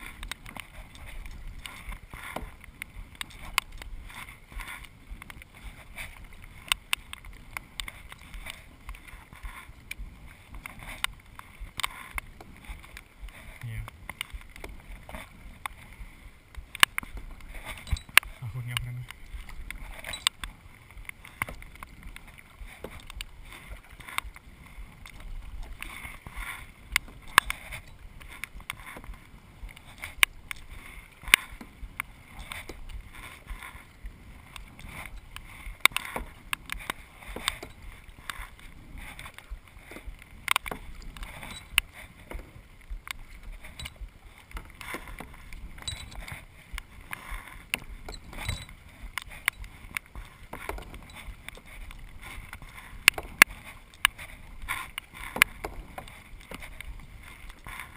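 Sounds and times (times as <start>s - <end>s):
paddle splashing in water: 0.0s - 57.9s.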